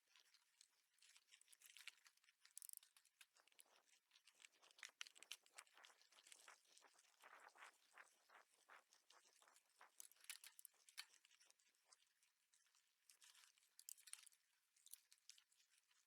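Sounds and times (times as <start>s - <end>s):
faint crunching and crackling: 0.0s - 16.0s.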